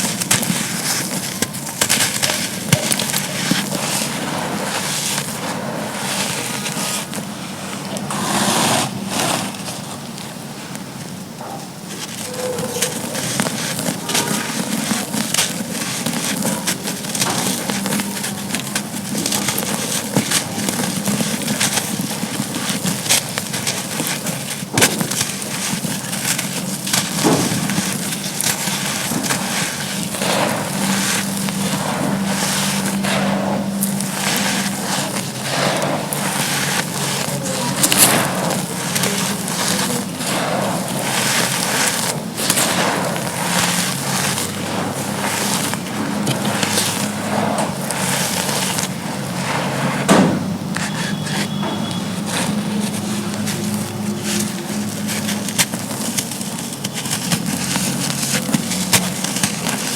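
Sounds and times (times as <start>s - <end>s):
charcoal being crushed: 0.0s - 59.9s.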